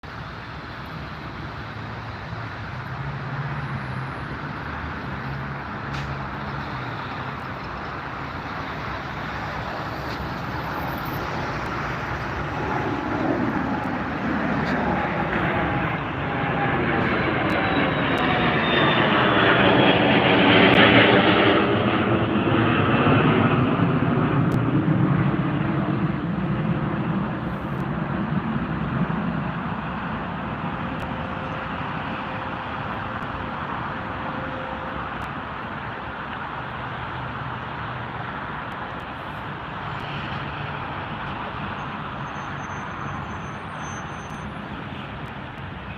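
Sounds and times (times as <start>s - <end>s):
high jet whine: 0.0s - 45.9s
aircraft engine taking off: 0.1s - 45.9s.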